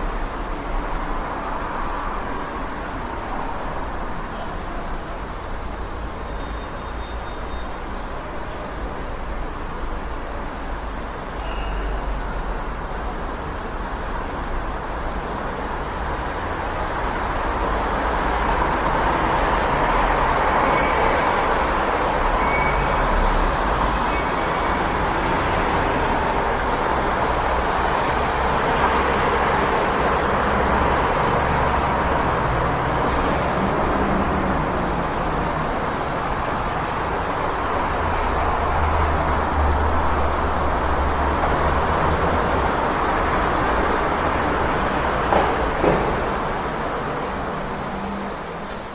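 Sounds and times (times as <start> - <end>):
passing vehicles: 0.0 - 48.9.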